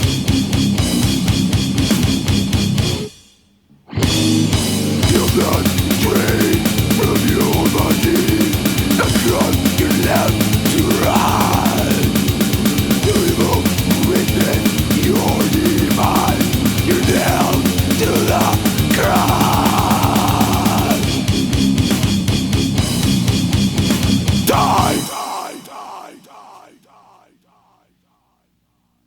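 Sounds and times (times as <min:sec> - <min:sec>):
death metal band playing: 0:00.0 - 0:03.1, 0:03.9 - 0:26.9.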